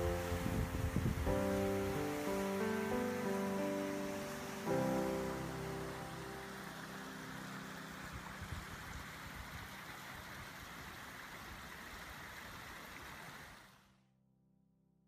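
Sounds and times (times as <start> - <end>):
creek water rushing: 0.0 - 13.9.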